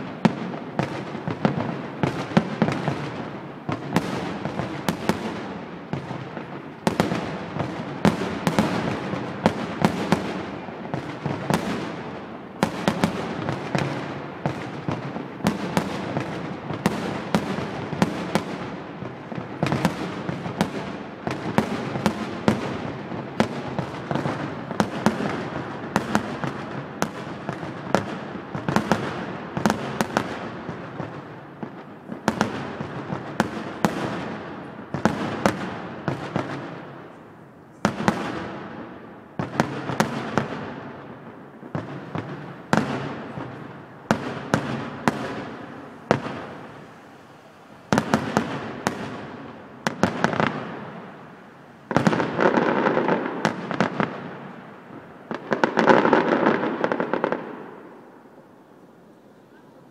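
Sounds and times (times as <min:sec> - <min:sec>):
crackling fireworks bursts: 0:00.0 - 0:59.9.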